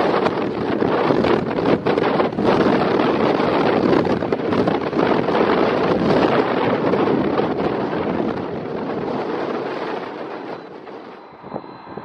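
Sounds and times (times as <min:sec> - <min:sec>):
jet engines roaring: 0:00.0 - 0:12.0
wind on microphone: 0:00.0 - 0:12.0.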